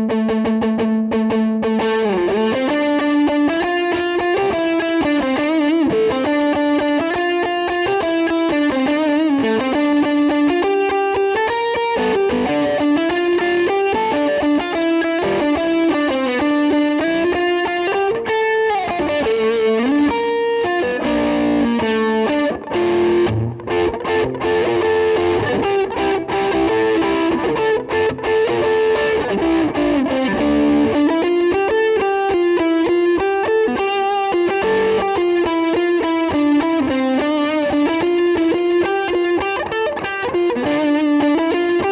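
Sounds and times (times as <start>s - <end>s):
electric guitar melody: 0.0s - 41.9s.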